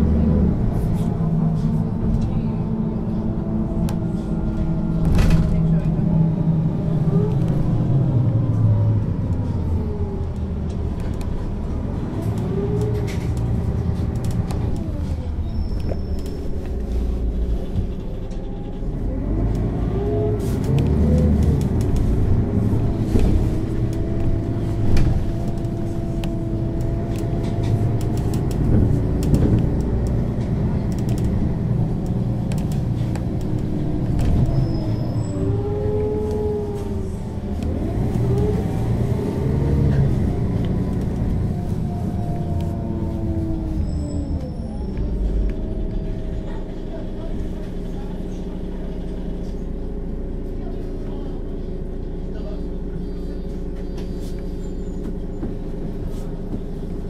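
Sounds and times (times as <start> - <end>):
bus engine accelerating: 0.0 - 57.0.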